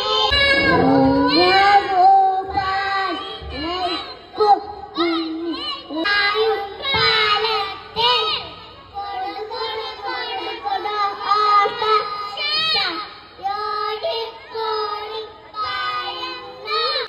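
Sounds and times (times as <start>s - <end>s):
children singing in unison: 0.0s - 17.0s.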